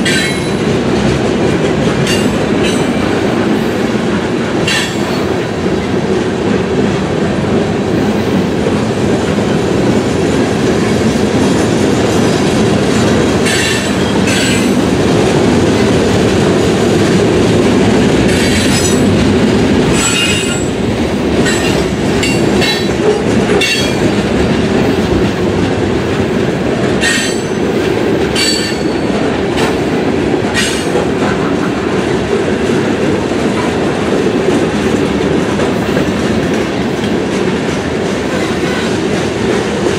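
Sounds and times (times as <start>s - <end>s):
steel wheels rolling on rails: 0.0s - 39.9s.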